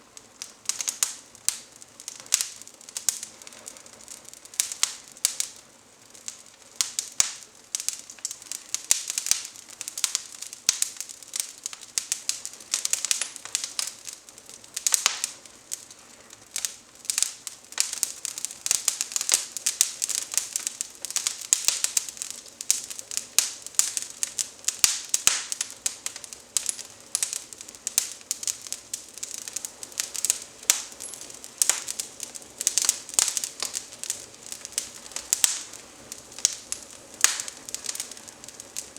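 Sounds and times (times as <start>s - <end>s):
twigs crackling in fireplace: 0.0s - 38.9s.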